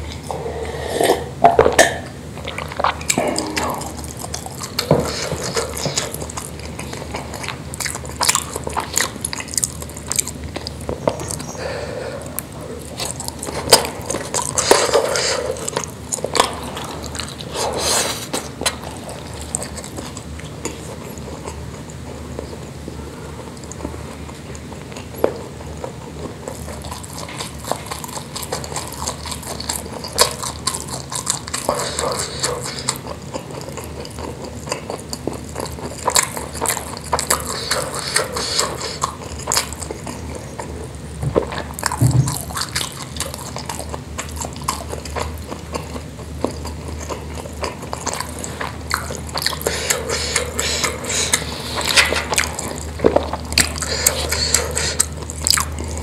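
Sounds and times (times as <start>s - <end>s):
steady low hum: 0.0s - 56.0s
wet chewing with mouth smacks: 0.0s - 56.0s.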